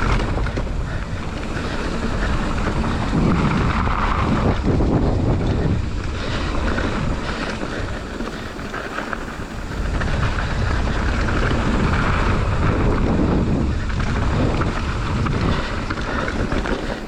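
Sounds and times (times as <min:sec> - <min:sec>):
bike tyres rattling over ground: 0:00.0 - 0:17.0
wind buffeting microphone: 0:00.0 - 0:17.0.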